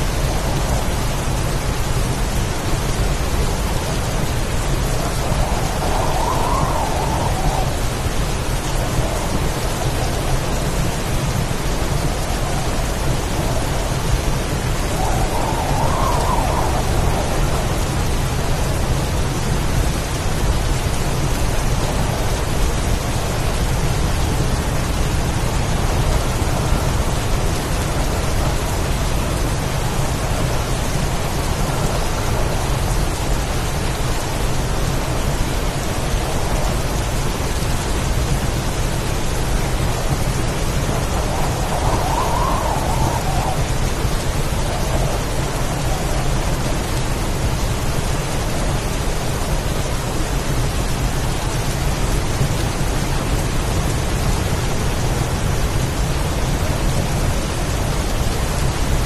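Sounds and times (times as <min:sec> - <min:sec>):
heavy rain pouring: 0:00.0 - 0:59.0
storm wind rumble: 0:00.0 - 0:59.0.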